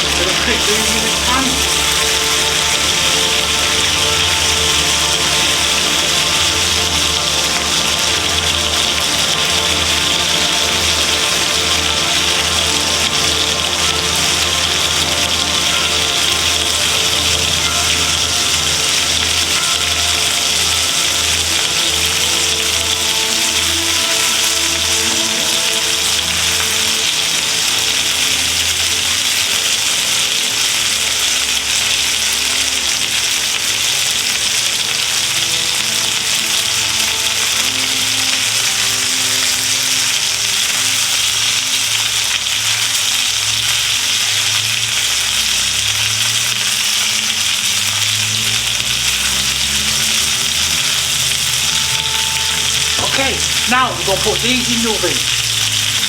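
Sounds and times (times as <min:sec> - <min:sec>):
background music: 0:00.0 - 0:56.0
food sizzling in a frying pan: 0:00.0 - 0:56.0.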